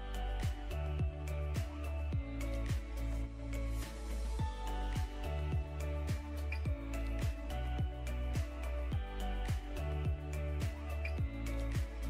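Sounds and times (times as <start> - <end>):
music with kick-drum beat: 0.0 - 12.0.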